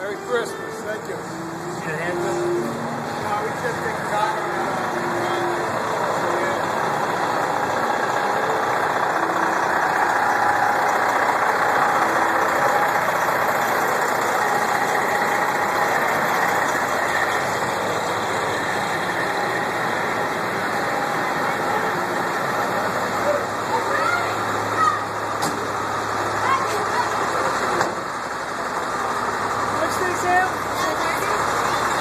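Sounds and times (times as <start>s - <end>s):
truck engines idling: 0.0s - 32.0s.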